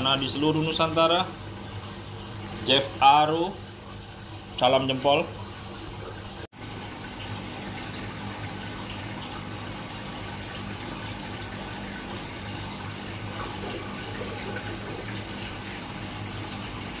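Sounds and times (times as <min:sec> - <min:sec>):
aquarium water bubbling: 0:00.0 - 0:17.0
pump humming: 0:00.0 - 0:17.0.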